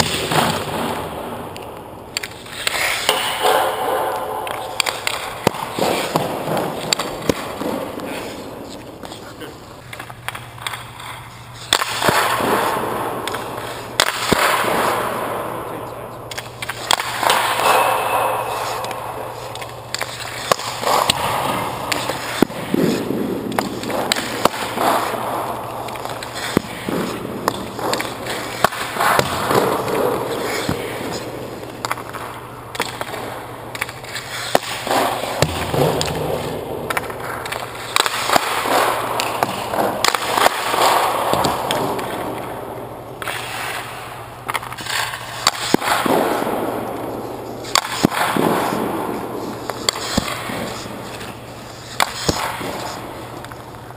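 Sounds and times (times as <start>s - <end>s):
skate blades scraping ice: 0.0s - 53.9s.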